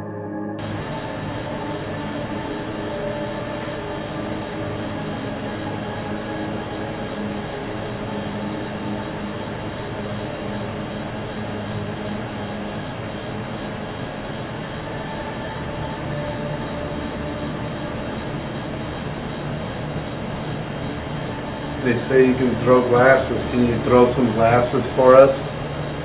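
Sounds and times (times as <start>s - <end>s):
machine drone with hiss: 0.6s - 26.0s.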